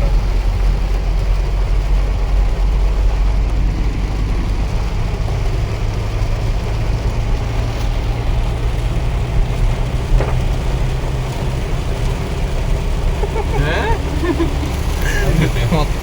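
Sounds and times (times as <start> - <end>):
engine and tyres rumbling: 0.0 - 16.0
rain hiss: 0.0 - 16.0.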